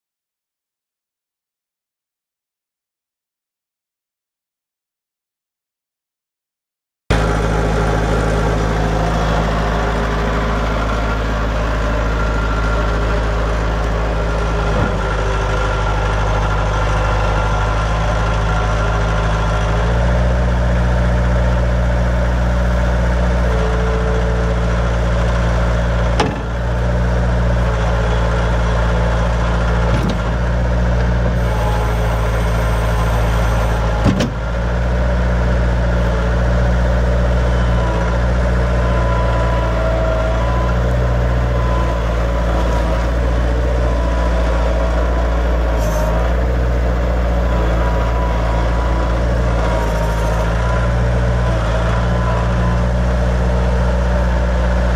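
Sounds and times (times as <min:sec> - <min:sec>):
diesel engine running: 0:07.1 - 0:54.9.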